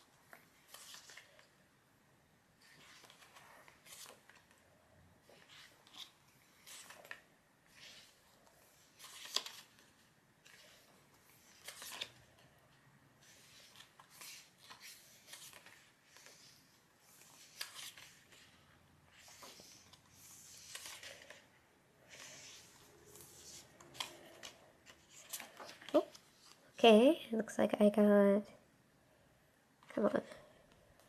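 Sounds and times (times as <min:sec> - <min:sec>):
pages turning: 0:00.2 - 0:01.6, 0:02.6 - 0:04.6, 0:05.2 - 0:26.7.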